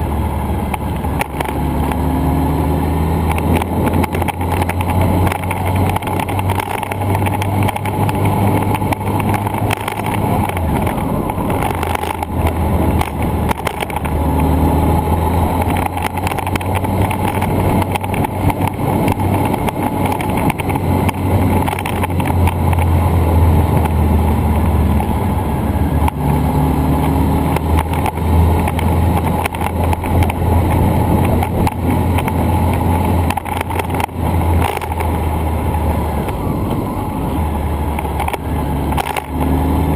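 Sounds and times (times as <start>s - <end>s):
road noise rumble: 0.0s - 39.9s.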